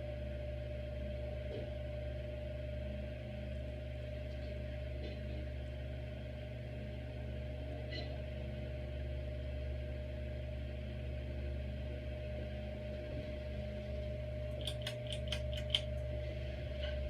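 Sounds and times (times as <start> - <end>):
ceiling fan motor hum: 0.0 - 17.0.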